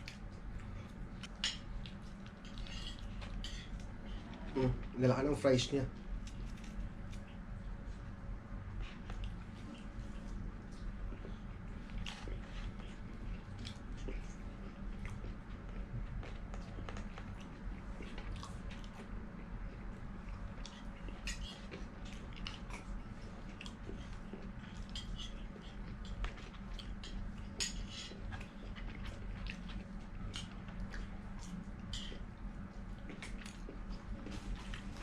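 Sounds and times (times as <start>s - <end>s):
person chewing food: 0.0s - 4.5s, 8.7s - 35.0s
steady low hum: 0.0s - 35.0s.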